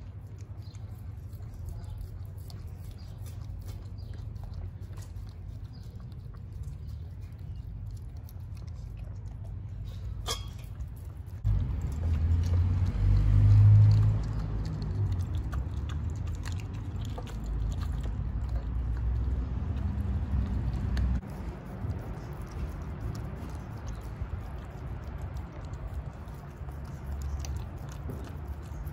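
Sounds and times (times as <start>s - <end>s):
dog chewing and crunching food: 0.0s - 28.9s.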